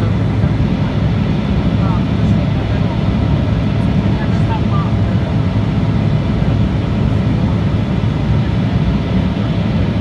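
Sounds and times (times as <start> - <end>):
jet cabin rumble: 0.0 - 10.0.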